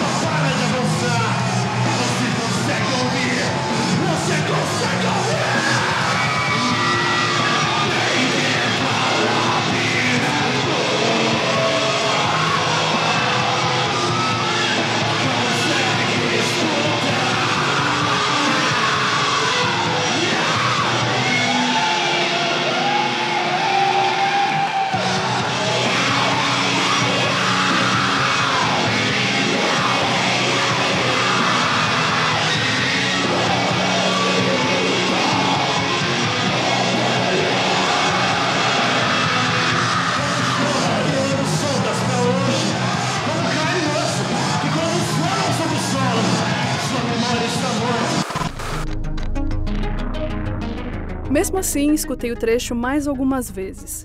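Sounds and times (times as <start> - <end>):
yelled vocals: 0.0 - 48.2
metal band playing live: 0.0 - 48.8.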